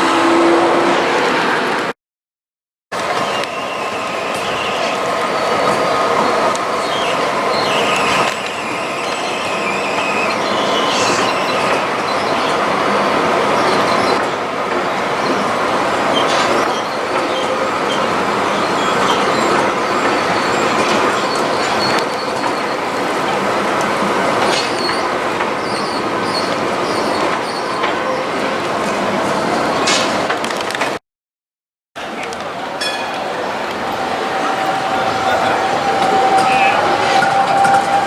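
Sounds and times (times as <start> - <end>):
tram rolling on rails: 0.0 - 1.9, 2.9 - 31.0, 32.0 - 38.0
wheels squealing: 3.0 - 30.3, 32.1 - 38.0.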